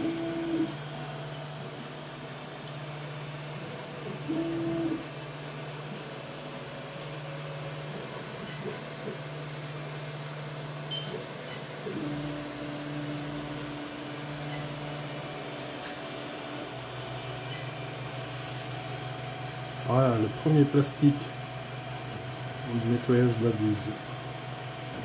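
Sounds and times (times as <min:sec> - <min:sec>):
fan hum: 0:00.0 - 0:25.0.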